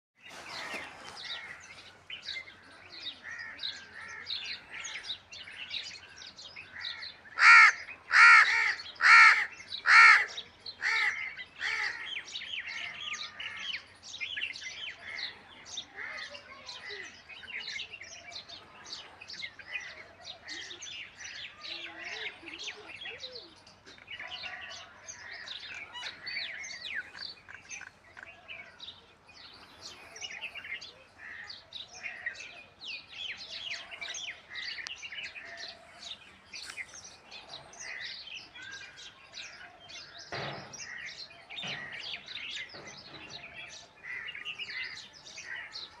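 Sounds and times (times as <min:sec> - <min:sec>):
many small birds chirping: 0:00.2 - 0:46.0.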